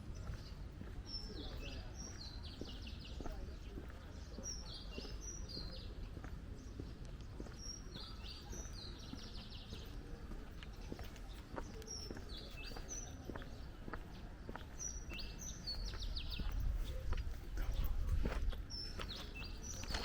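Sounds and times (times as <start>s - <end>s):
birds chirping: 0.0s - 20.0s
low city rumble: 0.0s - 20.0s.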